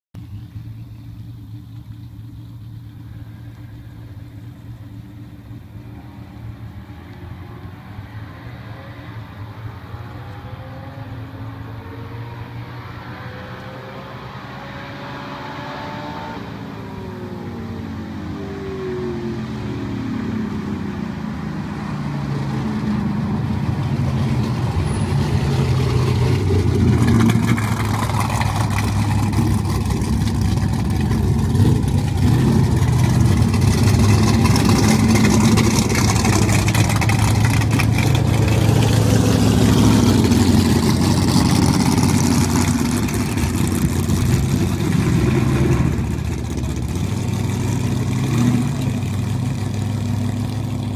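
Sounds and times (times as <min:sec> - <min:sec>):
low engine rumble: 0:00.2 - 0:12.8, 0:16.7 - 0:50.9
approaching car engine: 0:00.2 - 0:50.9
car engine revving: 0:01.2 - 0:50.9.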